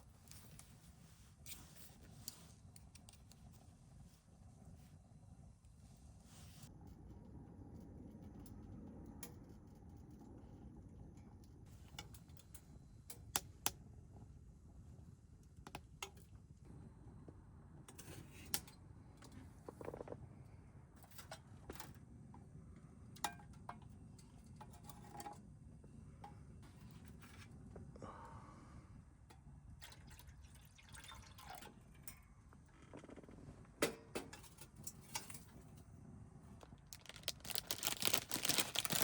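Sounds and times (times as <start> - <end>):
low steady rumble: 0.0 - 39.0.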